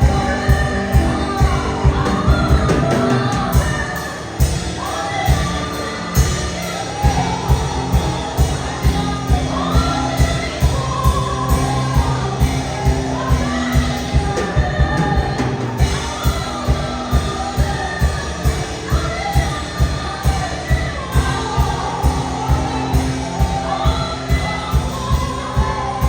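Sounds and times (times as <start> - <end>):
band playing steady beat: 0.0 - 26.0
voices singing: 0.0 - 26.0.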